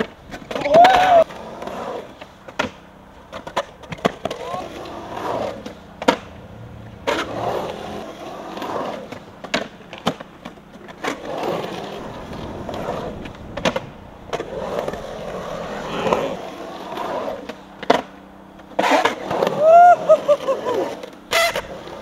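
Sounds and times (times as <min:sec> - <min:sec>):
skateboard clacking on concrete: 0:00.0 - 0:19.5, 0:20.7 - 0:22.0
skateboard wheels rolling on concrete: 0:00.0 - 0:22.0.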